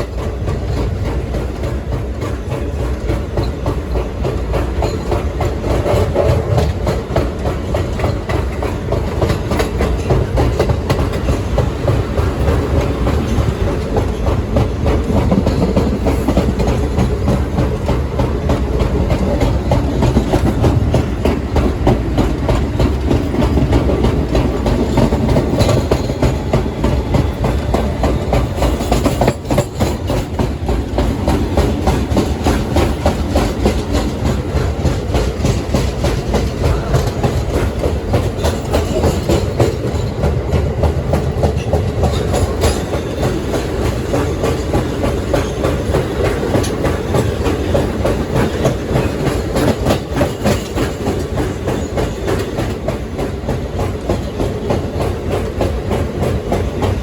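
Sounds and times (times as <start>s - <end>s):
subway train rumble: 0.0s - 57.0s
wheels clicking over rail joints: 0.0s - 57.0s.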